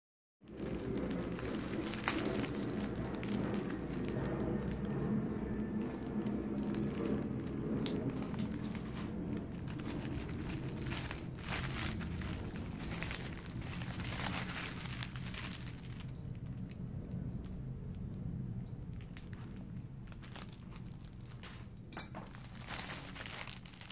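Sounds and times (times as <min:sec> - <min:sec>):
plastic bag crinkling: 0:00.4 - 0:23.9.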